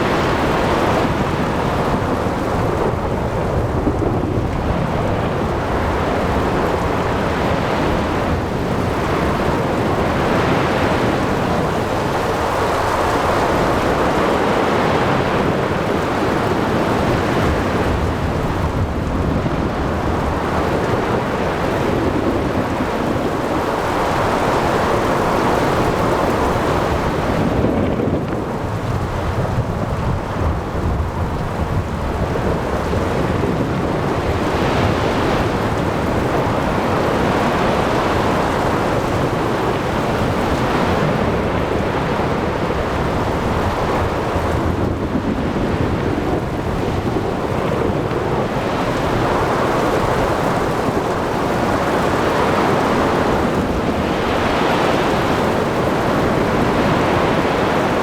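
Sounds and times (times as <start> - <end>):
rain: 0.0 - 58.0
waves: 0.0 - 58.0
wind: 0.0 - 58.0.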